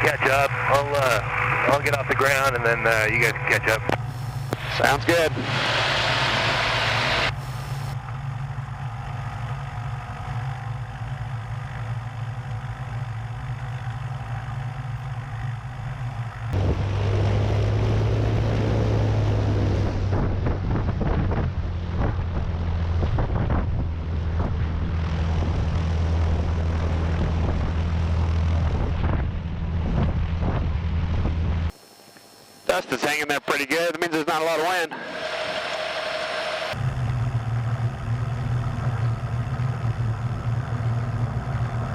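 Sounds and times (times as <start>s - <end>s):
propeller plane engine running: 0.0s - 41.9s.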